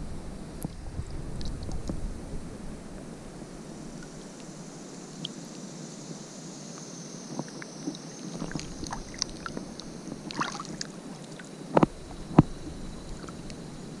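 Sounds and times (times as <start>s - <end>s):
water: 0.0s - 14.0s
wind: 0.0s - 14.0s.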